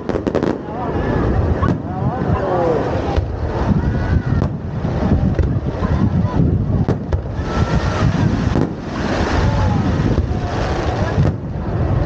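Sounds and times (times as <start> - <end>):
faint voices: 0.0 - 12.0
wind buffeting microphone: 0.0 - 12.0.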